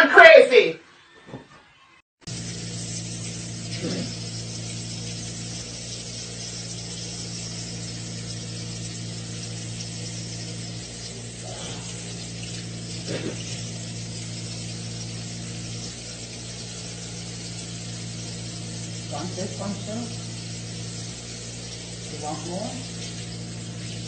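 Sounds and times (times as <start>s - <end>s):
low hum with hiss: 2.3s - 24.0s.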